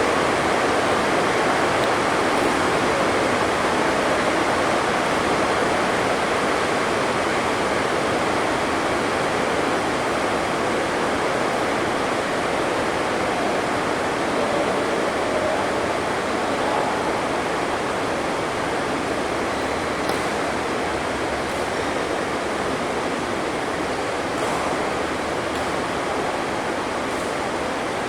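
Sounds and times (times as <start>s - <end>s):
heavy rain on a roof: 0.0s - 28.0s.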